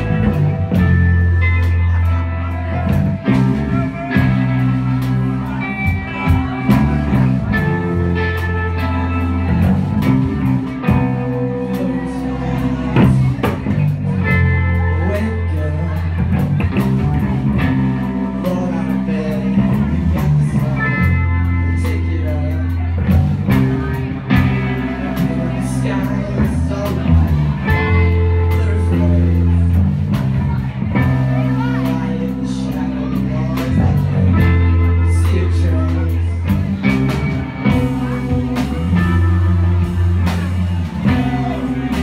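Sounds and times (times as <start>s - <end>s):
drum kit: 0.0s - 42.0s
electric guitars: 0.0s - 42.0s
sustained bass line: 0.0s - 42.0s.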